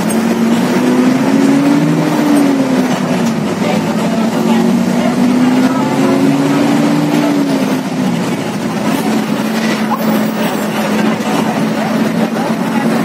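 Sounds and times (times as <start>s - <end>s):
heavy expressway traffic: 0.0s - 13.0s
vehicle engine hum passing: 0.0s - 13.0s.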